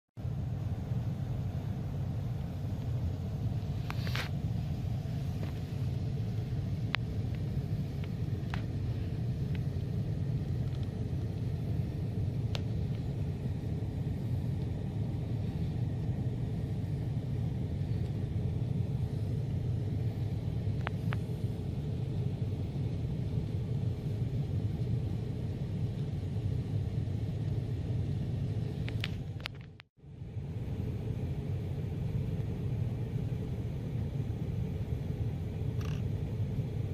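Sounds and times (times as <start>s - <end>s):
air handler rumble: 0.2s - 36.9s.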